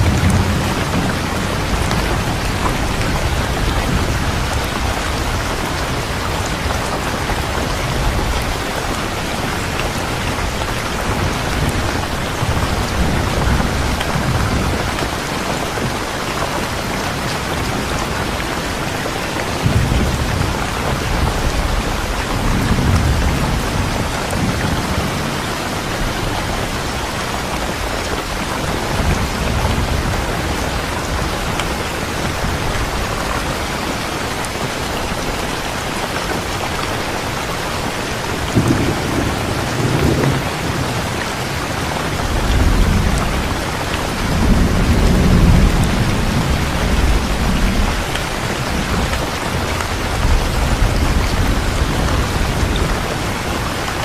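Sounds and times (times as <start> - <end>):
distant thunder rumbling: 0.0 - 34.7, 37.8 - 53.8
heavy rain: 0.0 - 54.0.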